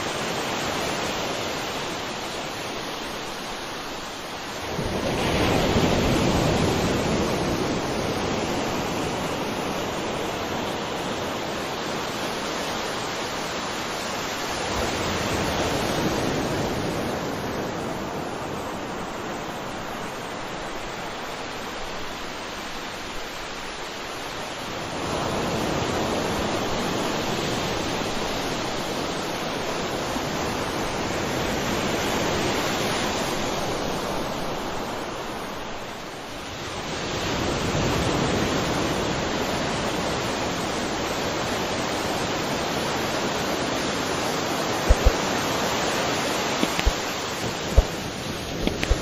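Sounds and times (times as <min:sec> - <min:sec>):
sea waves washing: 0:00.0 - 0:49.0.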